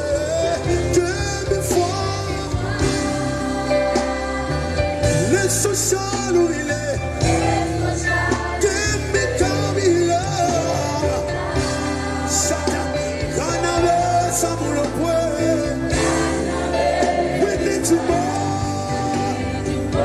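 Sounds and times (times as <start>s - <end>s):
band accompaniment: 0.0s - 20.0s.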